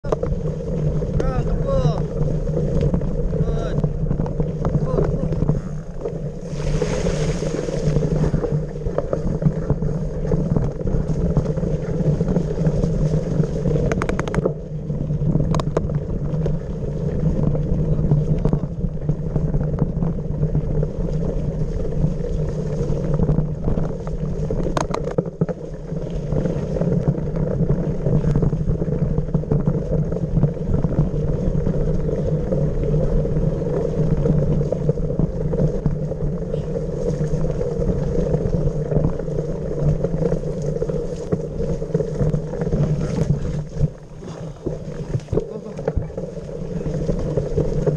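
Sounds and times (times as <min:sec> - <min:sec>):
small motorbike engine running: 0:00.0 - 0:44.6, 0:45.2 - 0:47.9.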